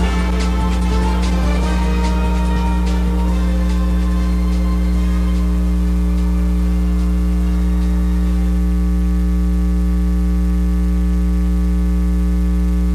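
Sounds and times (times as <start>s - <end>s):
buzzy mains hum: 0.0s - 12.9s.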